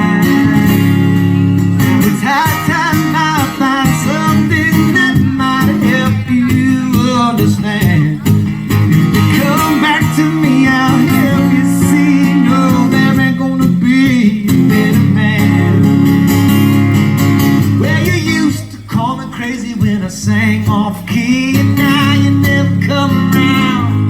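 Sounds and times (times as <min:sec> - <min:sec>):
person singing: 0:00.0 - 0:01.0, 0:01.8 - 0:16.4, 0:17.6 - 0:24.0
guitar accompaniment: 0:00.0 - 0:24.0.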